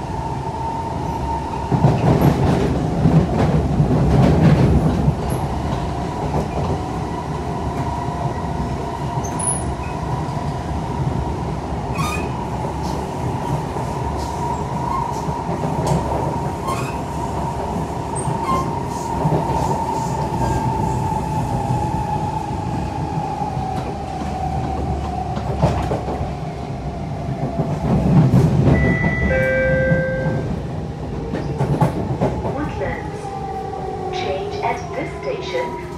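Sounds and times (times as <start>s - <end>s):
train wheels rumbling: 0.0s - 35.9s.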